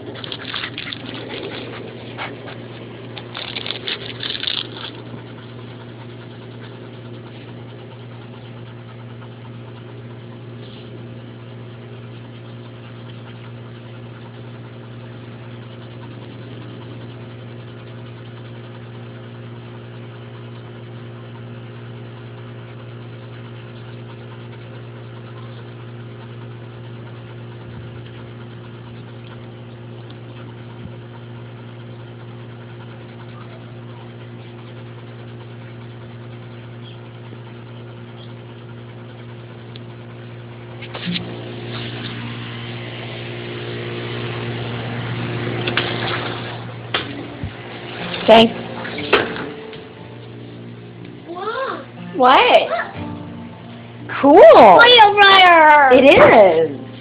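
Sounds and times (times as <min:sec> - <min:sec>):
machine hum: 0:00.0 - 0:57.0.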